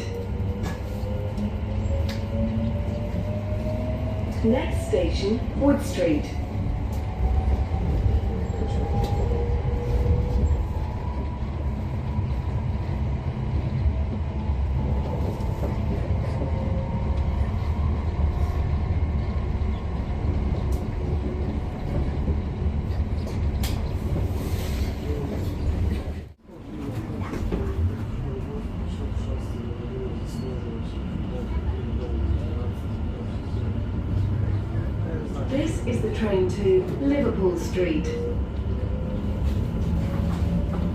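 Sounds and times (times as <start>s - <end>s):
train rumble inside carriage: 0.0s - 40.9s.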